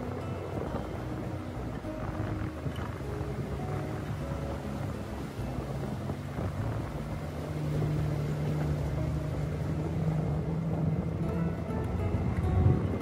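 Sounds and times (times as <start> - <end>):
off-road vehicle engine droning: 0.0 - 13.0.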